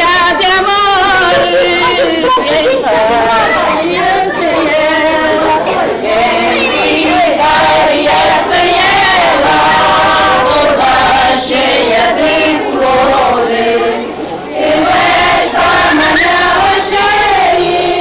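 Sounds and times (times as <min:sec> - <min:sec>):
group singing in chorus: 0:00.0 - 0:18.0.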